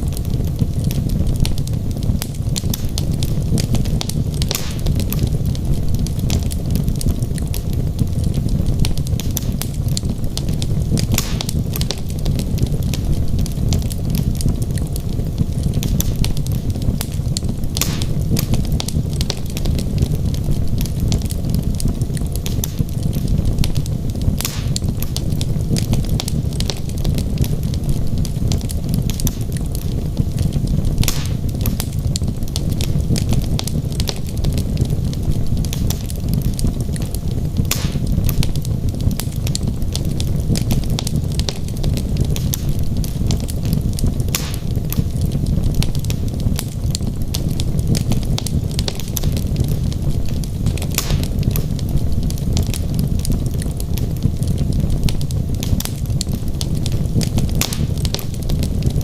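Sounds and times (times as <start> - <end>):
fire flame rumble: 0.0 - 59.0
wood fire crackling and popping: 0.0 - 59.0.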